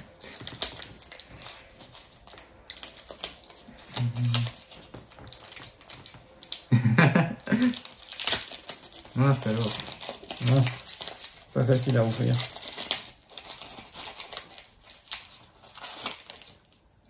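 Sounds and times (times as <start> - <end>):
foil wrapper crinkling: 0.0 - 17.0.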